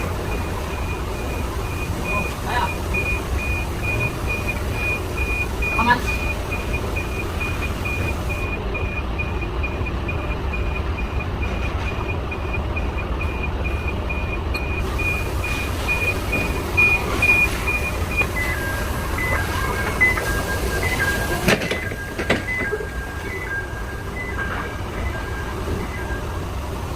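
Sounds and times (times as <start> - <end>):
low engine rumble: 0.0 - 26.9
reversing alarm beeping: 0.0 - 26.9.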